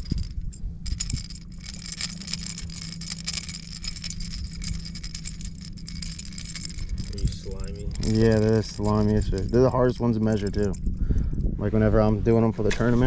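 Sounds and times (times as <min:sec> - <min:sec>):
rattling and clicking: 0:00.0 - 0:11.6.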